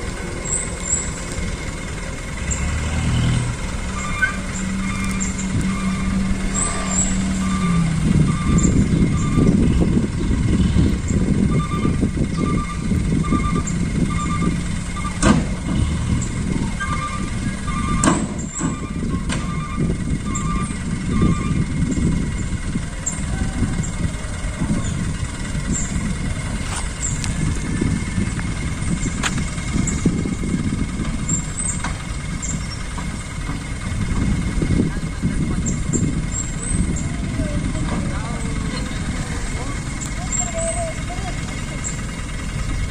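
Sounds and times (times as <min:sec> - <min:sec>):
dump truck engine rumbling: 0:00.0 - 0:42.9.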